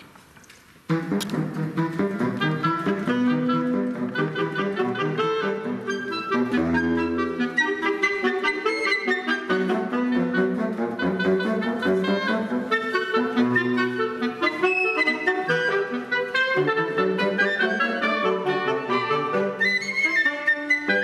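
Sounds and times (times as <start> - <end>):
woodwind ensemble playing: 0.9 - 21.0.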